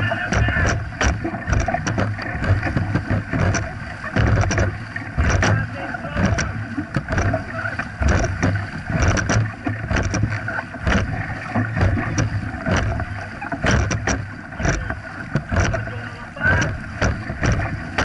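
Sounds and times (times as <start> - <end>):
paddles splashing in water: 0.0 - 18.0
water rushing past hull: 0.0 - 18.0.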